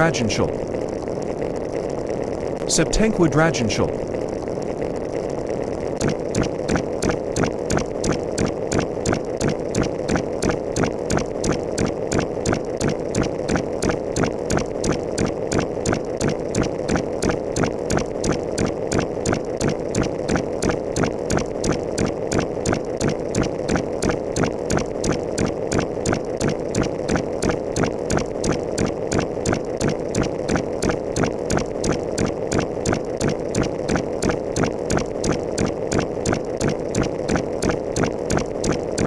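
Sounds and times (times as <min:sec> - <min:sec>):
machine rumbling hum: 0:00.0 - 0:39.0
repetitive mechanical clicking: 0:06.0 - 0:39.0.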